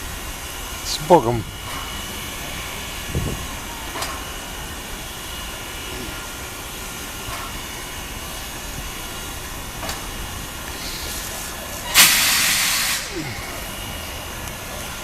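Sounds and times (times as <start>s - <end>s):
locomotive engine running: 0.0s - 15.0s
steam hissing: 0.0s - 15.0s.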